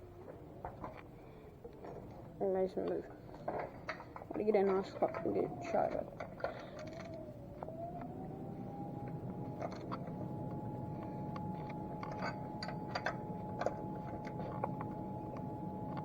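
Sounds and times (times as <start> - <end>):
constant high-pitched tone: 1.6 - 16.0
steady hum: 2.4 - 16.0.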